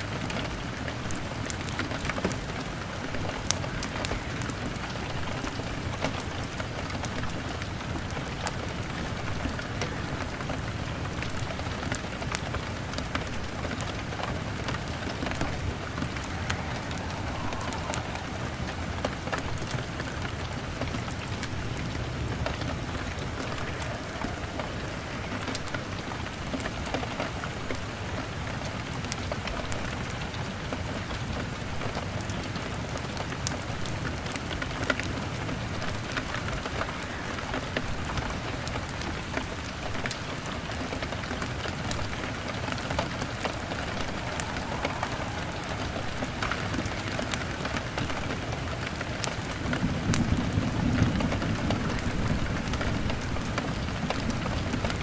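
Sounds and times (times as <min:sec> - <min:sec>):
rain beating on window: 0:00.0 - 0:55.0
log fire crackling: 0:00.1 - 0:28.1, 0:36.5 - 0:55.0.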